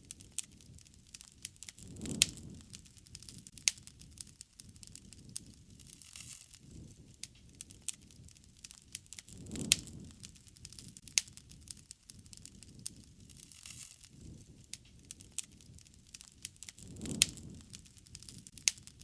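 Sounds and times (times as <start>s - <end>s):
low rumble of flames: 0.0s - 19.0s
sharp pops and snaps: 0.0s - 19.0s
wood fire crackling: 0.0s - 19.0s.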